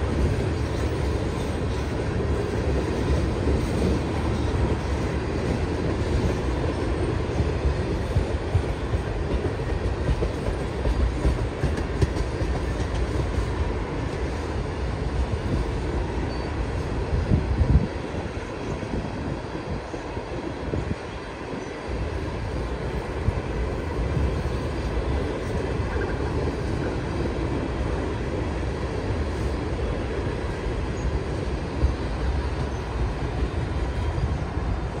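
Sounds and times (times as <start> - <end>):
train wheels rolling on rails: 0.0 - 35.0.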